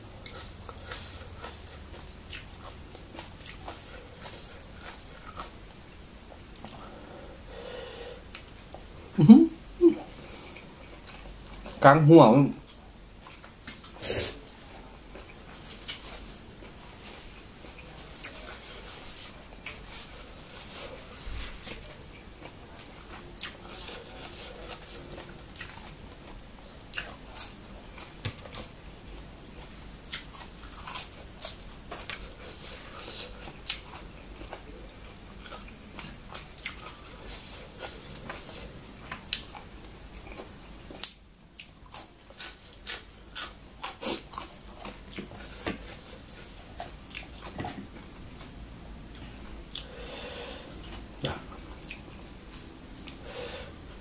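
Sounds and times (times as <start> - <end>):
chewing and crunching food: 0.0 - 5.7, 10.0 - 11.8, 12.6 - 50.0, 50.8 - 53.2.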